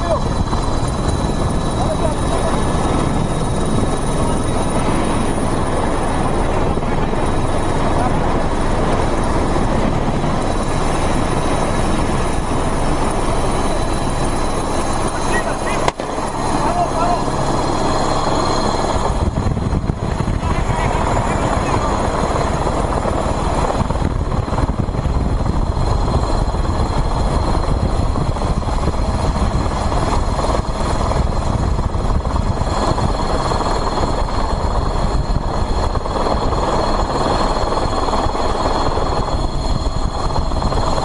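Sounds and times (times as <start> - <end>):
helicopter rotor and turbine drone: 0.0 - 41.0.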